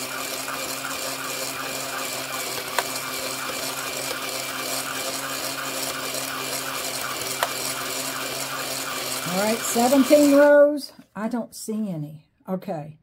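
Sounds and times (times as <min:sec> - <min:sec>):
motor hum: 0:00.0 - 0:10.5.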